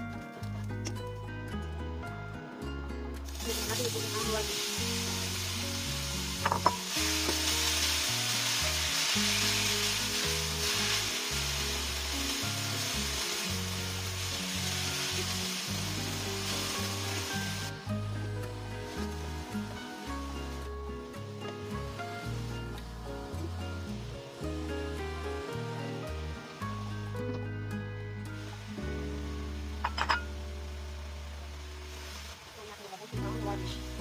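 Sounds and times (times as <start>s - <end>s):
background music with bass: 0.0s - 32.3s, 33.2s - 34.0s
food sizzling in hot oil: 3.2s - 34.0s.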